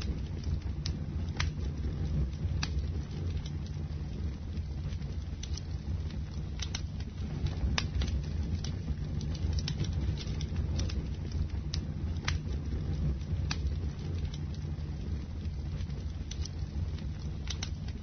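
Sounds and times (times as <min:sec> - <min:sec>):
burning wood crackling and popping: 0:00.0 - 0:18.0
low rumble of flames: 0:00.0 - 0:18.0.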